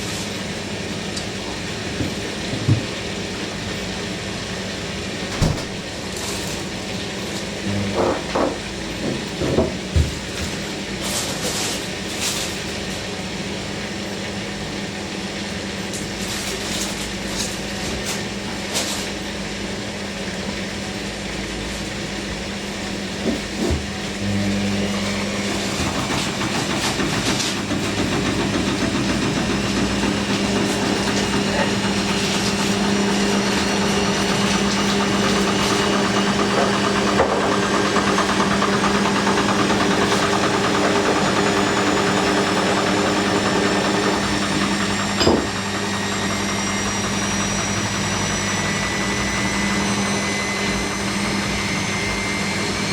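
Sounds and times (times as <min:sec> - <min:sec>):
washing machine spinning: 0:00.0 - 0:52.9.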